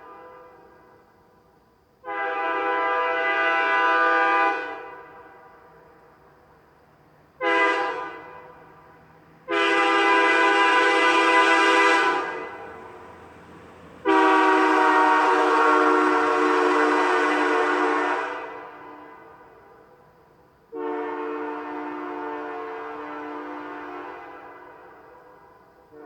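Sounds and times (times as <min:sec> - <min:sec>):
air train horn blasts: 0:00.0 - 0:01.0, 0:02.0 - 0:05.9, 0:07.4 - 0:20.0, 0:20.7 - 0:26.0.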